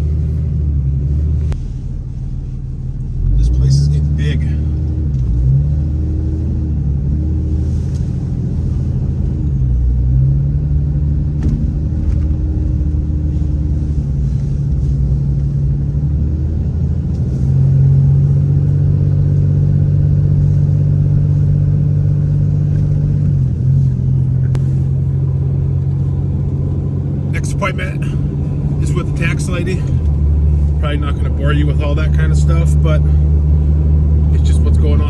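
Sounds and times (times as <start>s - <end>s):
vehicle engine and road noise: 0.0s - 35.0s.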